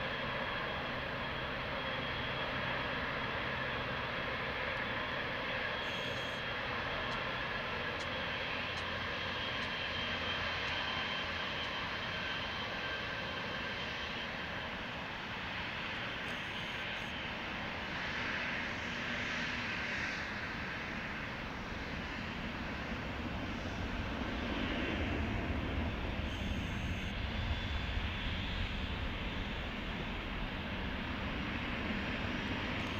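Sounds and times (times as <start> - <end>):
jet engines at take-off power: 0.0 - 32.9.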